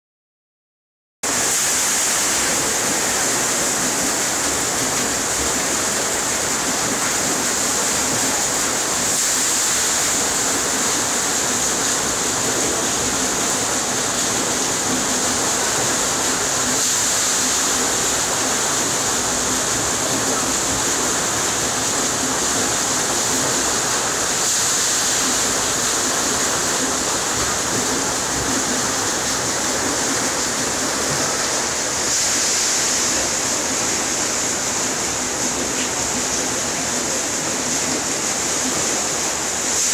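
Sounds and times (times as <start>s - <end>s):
water rushing over mill wheel: 1.2s - 39.9s.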